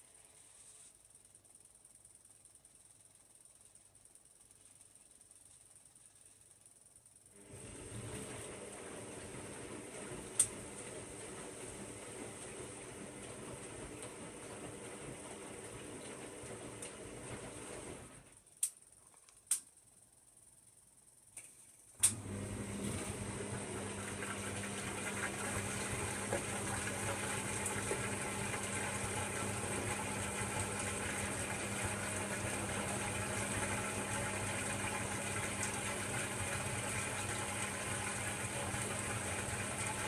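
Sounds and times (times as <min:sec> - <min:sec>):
washing machine hum: 0:00.0 - 0:19.0, 0:20.0 - 0:40.0.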